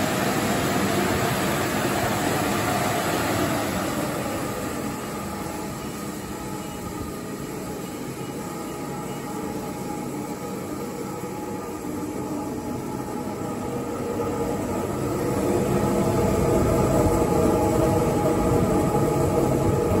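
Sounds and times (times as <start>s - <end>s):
car wash dryer blowers: 0.0s - 20.0s.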